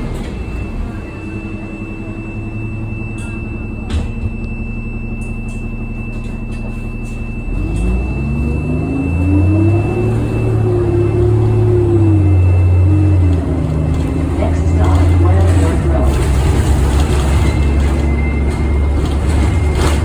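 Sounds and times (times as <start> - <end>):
bus diesel engine: 0.0 - 20.0.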